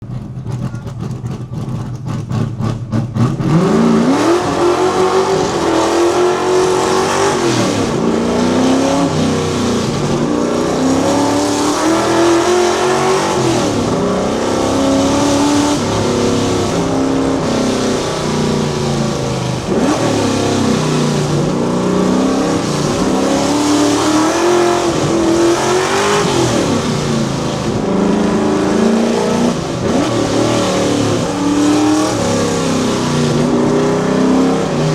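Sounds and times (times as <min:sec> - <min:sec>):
car engine accelerating hard: 0:00.0 - 0:34.9.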